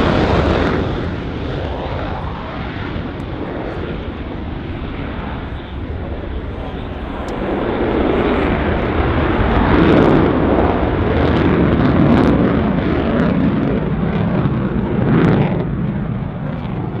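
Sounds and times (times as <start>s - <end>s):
jet engine afterburner roar: 0.0s - 17.0s.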